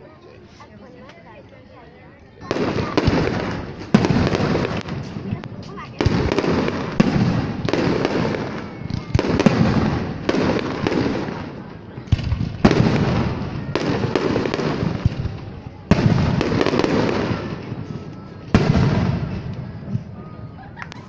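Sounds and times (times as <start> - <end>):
fireworks bursting: 2.4 - 21.0.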